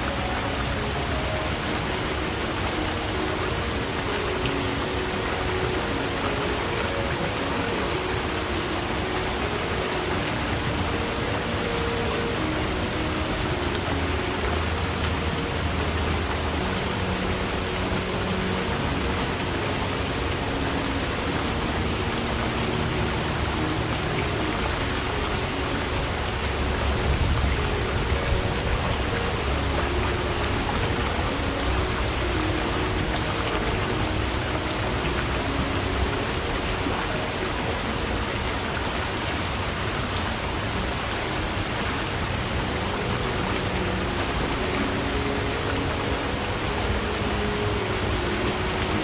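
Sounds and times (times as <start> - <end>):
stream flowing: 0.0 - 49.0.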